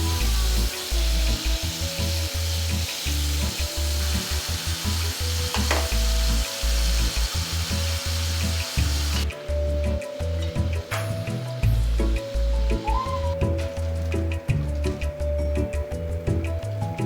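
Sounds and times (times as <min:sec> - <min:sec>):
food sizzling in a pan: 0:00.0 - 0:15.7.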